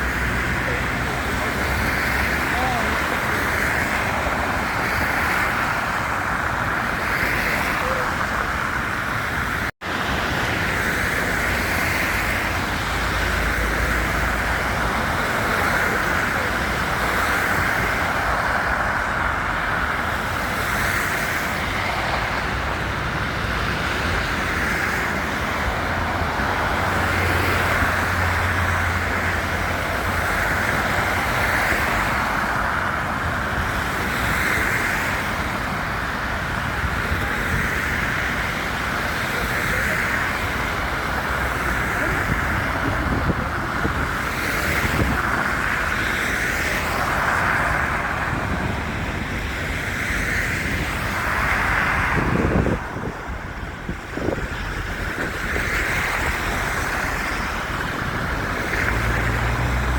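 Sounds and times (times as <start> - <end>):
low traffic rumble: 0.0 - 59.9
passing vehicles hiss: 0.0 - 59.9.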